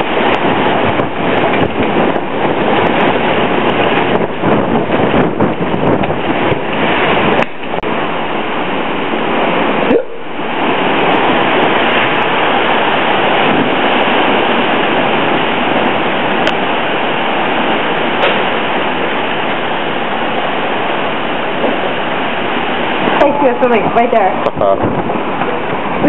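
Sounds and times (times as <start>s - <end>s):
heavy rain: 0.0s - 26.0s
hurricane wind: 0.0s - 26.0s.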